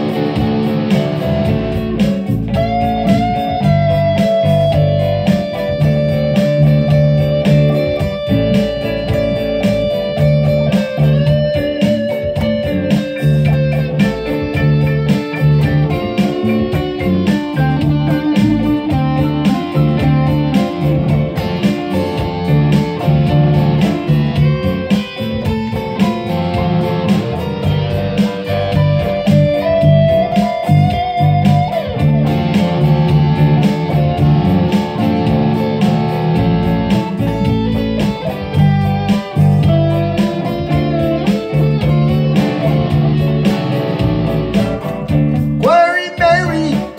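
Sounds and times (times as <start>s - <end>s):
electric guitar blues: 0.0s - 46.9s.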